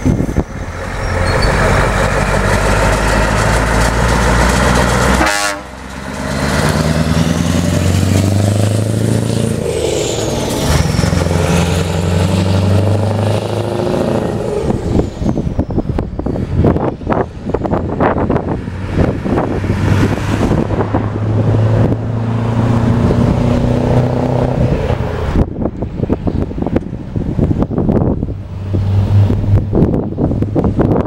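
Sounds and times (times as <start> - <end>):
diesel truck engine accelerating: 0.0 - 31.0.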